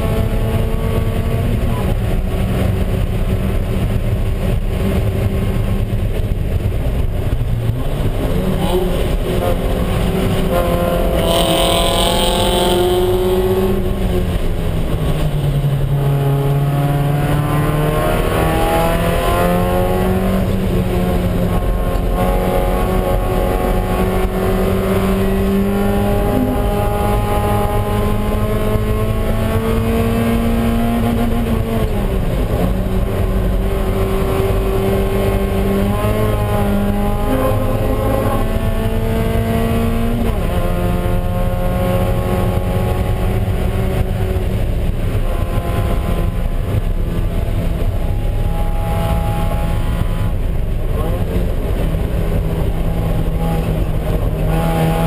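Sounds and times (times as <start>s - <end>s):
race car engine pulling hard: 0.0s - 55.0s
road and wind noise: 0.0s - 55.0s.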